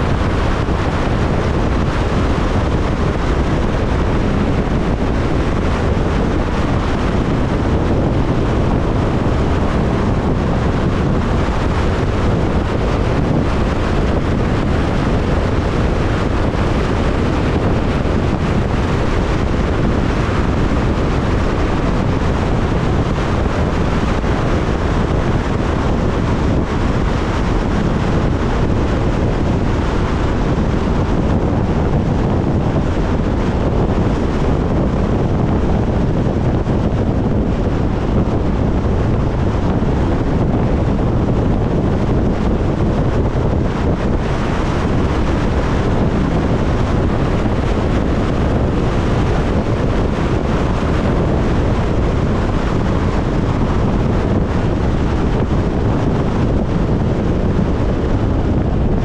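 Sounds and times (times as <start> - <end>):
car road noise: 0.0 - 59.0
wind buffeting microphone: 0.0 - 59.0.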